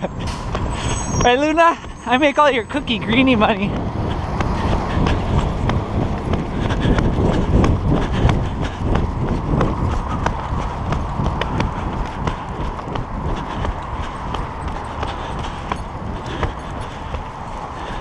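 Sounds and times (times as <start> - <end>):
footsteps on concrete: 0.0 - 18.0
steady low rumble: 0.0 - 18.0.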